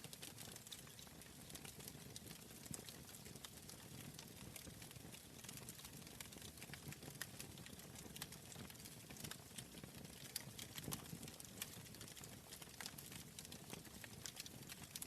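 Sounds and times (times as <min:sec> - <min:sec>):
wood fire crackling: 0:00.1 - 0:15.0.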